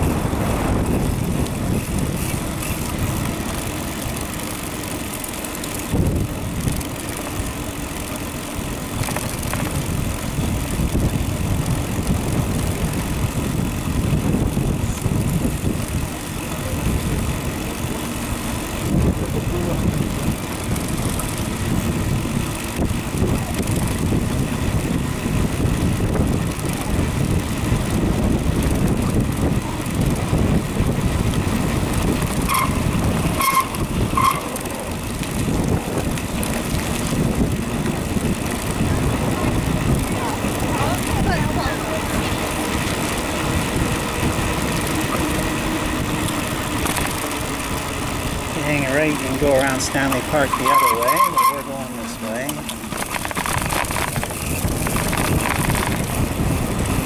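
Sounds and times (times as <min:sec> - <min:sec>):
wind buffeting microphone: 0:00.0 - 0:04.4, 0:05.7 - 0:07.0, 0:08.8 - 0:17.9, 0:18.6 - 0:50.6, 0:52.6 - 0:57.0.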